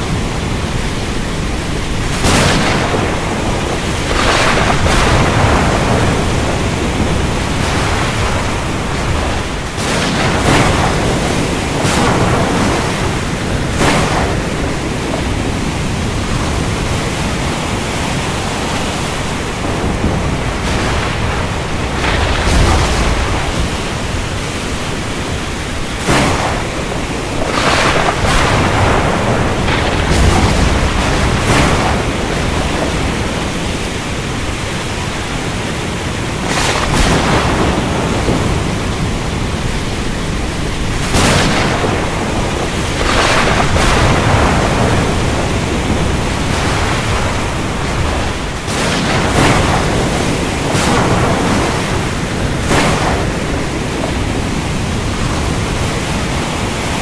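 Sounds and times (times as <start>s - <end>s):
heavy rain: 0.0s - 57.0s
thunder cracks: 0.0s - 57.0s.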